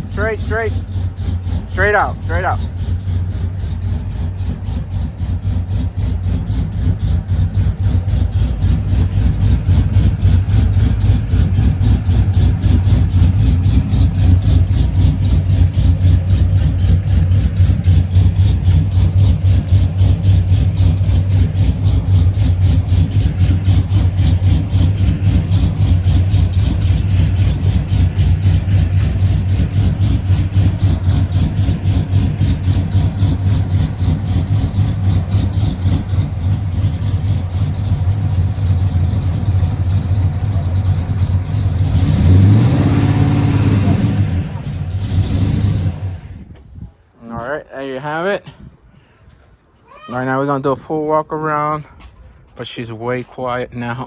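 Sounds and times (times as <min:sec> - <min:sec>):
car engine idling: 0:00.0 - 0:46.5.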